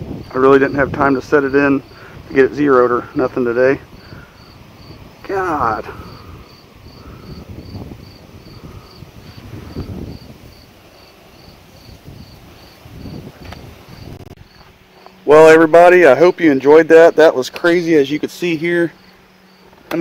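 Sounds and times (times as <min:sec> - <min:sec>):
cricket chirping: 0:00.0 - 0:15.2, 0:16.1 - 0:20.0.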